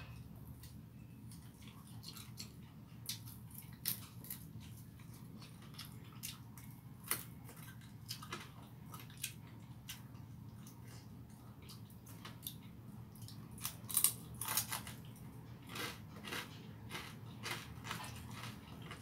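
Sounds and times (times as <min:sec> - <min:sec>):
steady low hum: 0:00.0 - 0:19.0
person chewing with wet smacks: 0:00.6 - 0:19.0.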